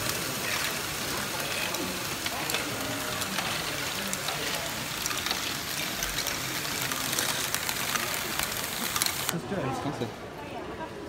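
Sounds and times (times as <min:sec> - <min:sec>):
plastic balls rattling on tracks: 0:00.0 - 0:09.3.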